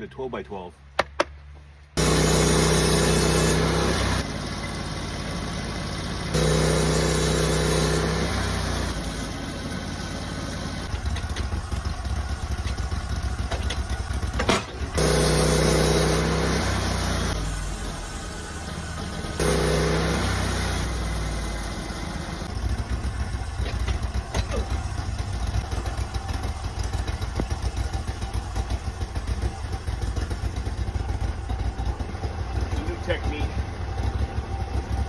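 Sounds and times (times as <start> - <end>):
sawmill engine running: 2.0 - 35.0.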